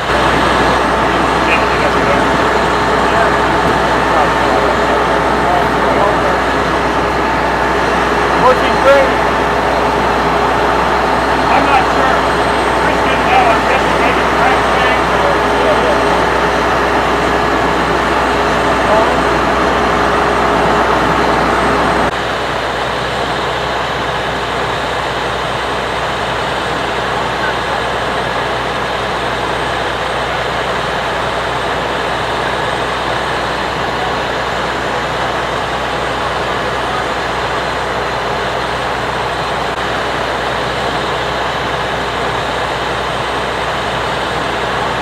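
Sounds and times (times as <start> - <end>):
road traffic roar: 0.0 - 45.0.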